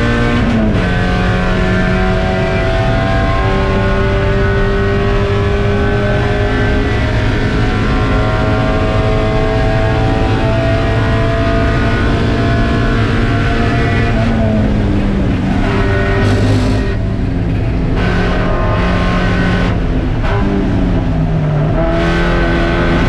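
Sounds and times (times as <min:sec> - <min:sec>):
race car engine under load: 0:00.0 - 0:23.0.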